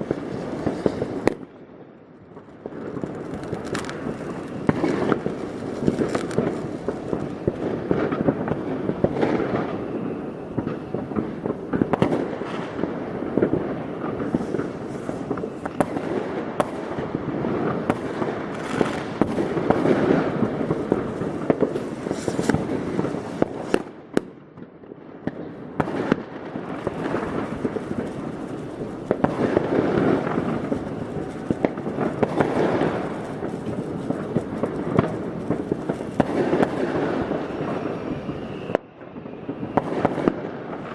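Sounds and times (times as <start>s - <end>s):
firework bangs: 0.0s - 1.6s, 2.3s - 40.9s
firework crackling: 0.0s - 40.9s.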